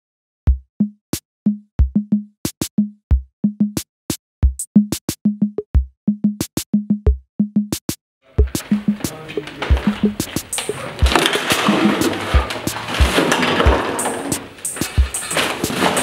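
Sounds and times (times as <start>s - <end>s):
electronic drum beat: 0.5s - 16.0s.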